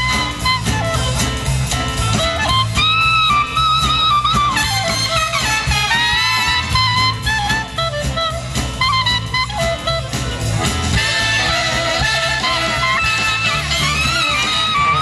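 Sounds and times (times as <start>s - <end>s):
clarinet melody: 0.0s - 15.0s
live band playing: 0.0s - 15.0s.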